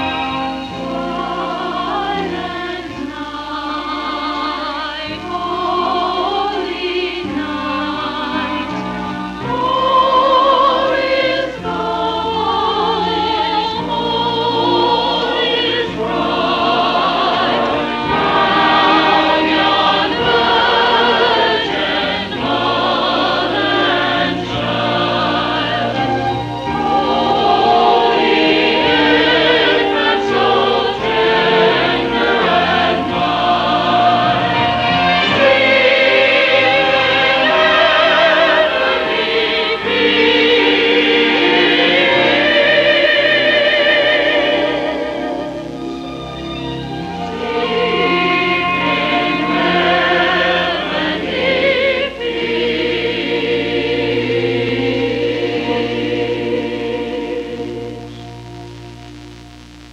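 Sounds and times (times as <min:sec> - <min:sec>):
choir singing: 0:00.0 - 0:58.8.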